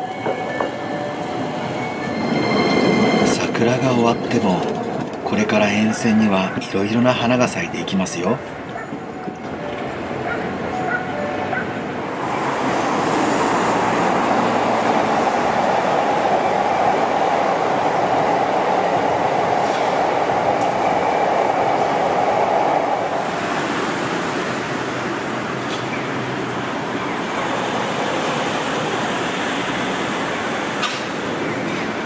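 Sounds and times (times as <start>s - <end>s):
train wheels on track: 0.0s - 32.0s.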